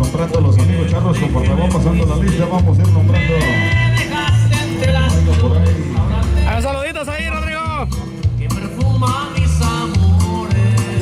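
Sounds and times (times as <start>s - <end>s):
music with bass and gliding melody: 0.0s - 11.0s.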